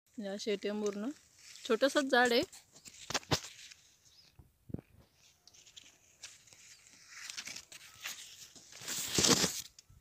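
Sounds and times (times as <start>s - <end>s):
leaves rustling against microphone: 0.1s - 9.8s
faint handling sounds: 0.6s - 9.9s.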